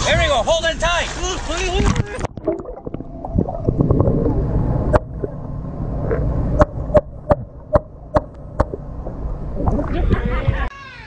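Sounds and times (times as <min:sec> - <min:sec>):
muffled underwater rumble: 0:01.7 - 0:10.7.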